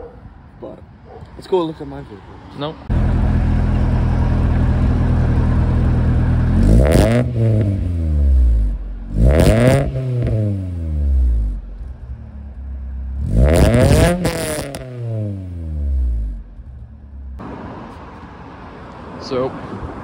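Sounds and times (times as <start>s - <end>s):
car engine idling and revving: 2.8s - 19.4s.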